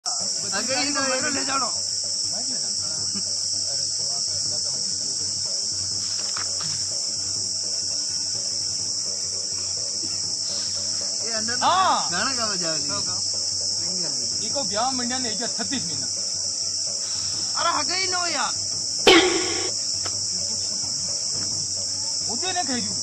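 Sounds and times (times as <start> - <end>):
insect chorus buzzing: 0.0 - 23.0.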